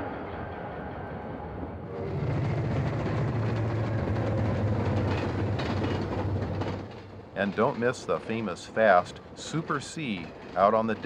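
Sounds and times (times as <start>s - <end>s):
diesel locomotive engine drone: 0.0s - 11.0s
rail and wheel noise: 0.0s - 11.0s.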